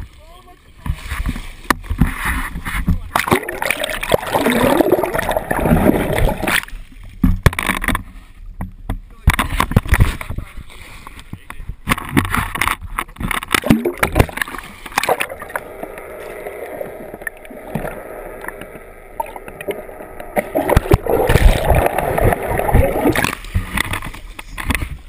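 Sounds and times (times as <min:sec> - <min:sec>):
churning water with low thumps: 0:00.0 - 0:25.0
water splashing against camera housing: 0:00.8 - 0:16.2, 0:16.8 - 0:25.0.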